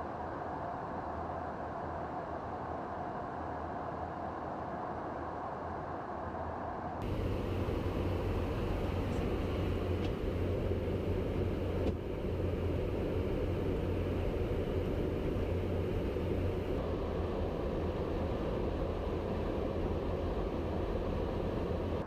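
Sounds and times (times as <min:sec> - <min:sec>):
jet engine noise: 0:00.0 - 0:22.0.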